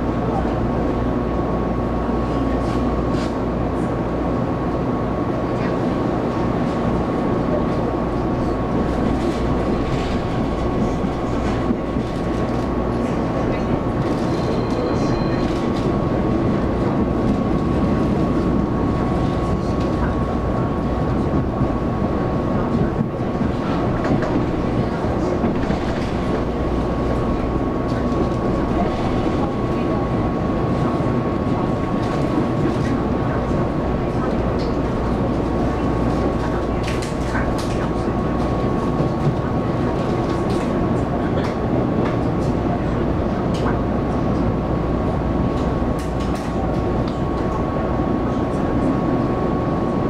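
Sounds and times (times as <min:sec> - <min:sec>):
train rolling rumble: 0:00.0 - 0:50.0.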